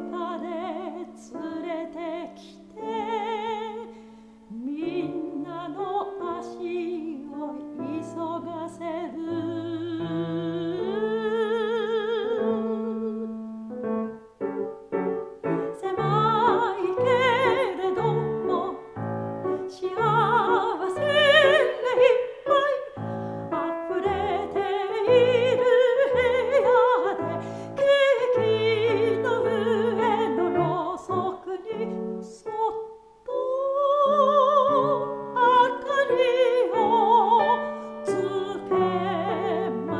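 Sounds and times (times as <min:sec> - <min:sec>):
piano playing repeated chords: 0:00.0 - 0:32.9, 0:34.1 - 0:39.9
soprano singing with vibrato: 0:00.0 - 0:39.9.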